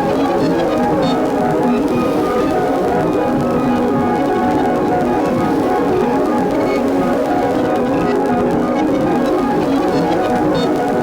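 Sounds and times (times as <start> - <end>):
ambient electronic synth music: 0.0 - 11.0.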